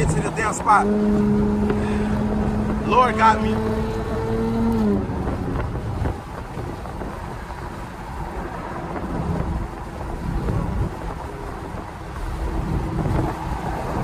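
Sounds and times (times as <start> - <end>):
engine droning: 0.0 - 14.0
road and wind noise: 0.0 - 14.0.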